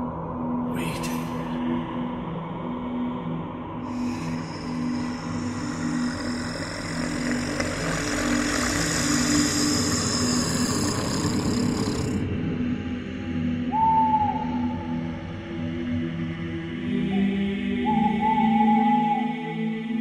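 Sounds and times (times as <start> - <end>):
low drone tones: 0.0 - 20.0.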